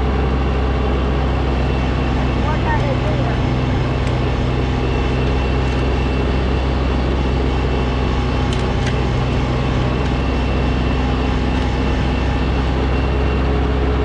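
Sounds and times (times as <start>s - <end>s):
snowblower engine running: 0.0s - 14.0s.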